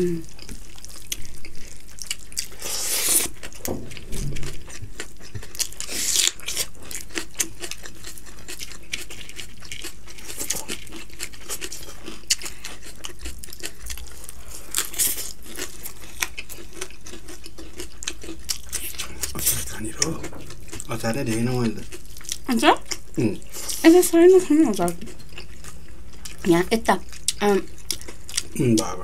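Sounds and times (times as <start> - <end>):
wet mouth clicks and chewing: 0.2 - 23.9, 24.8 - 28.9.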